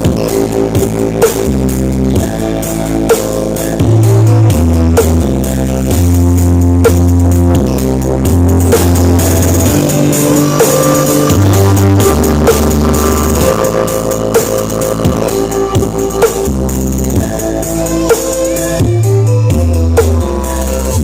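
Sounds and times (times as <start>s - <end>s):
heavy bass notes: 0.0s - 21.0s
loud dance music: 0.0s - 21.0s.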